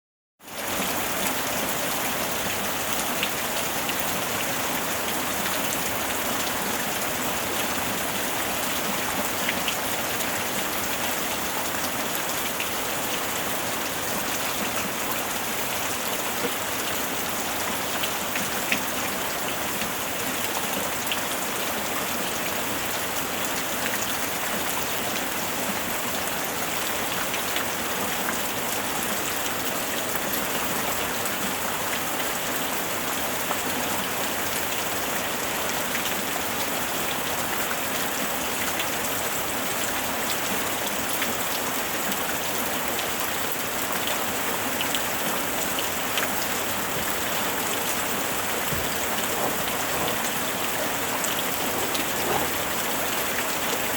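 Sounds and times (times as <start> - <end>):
steady rain falling: 0.4 - 53.9.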